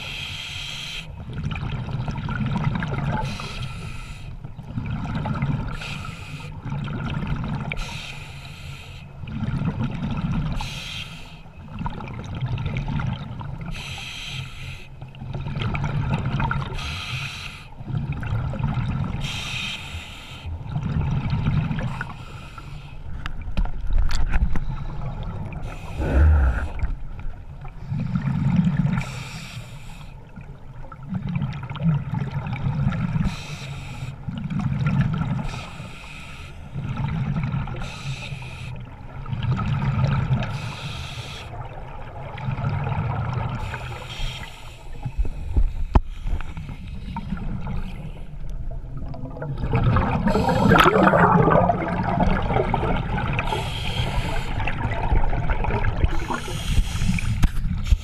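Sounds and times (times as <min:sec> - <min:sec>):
water sloshing and splashing: 0:01.1 - 0:58.0.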